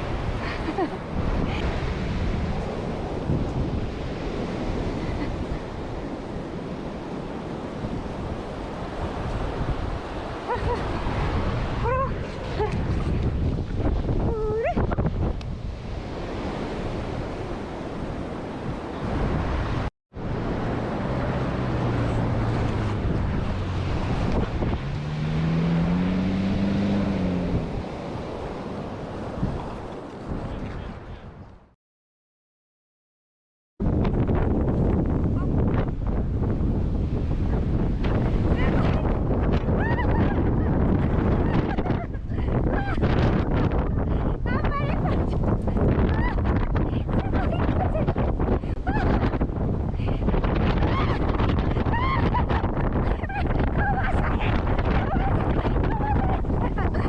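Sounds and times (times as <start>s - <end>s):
ocean surf: 0.0s - 31.4s, 35.1s - 57.0s
wind buffeting microphone: 0.0s - 31.7s, 33.8s - 57.0s.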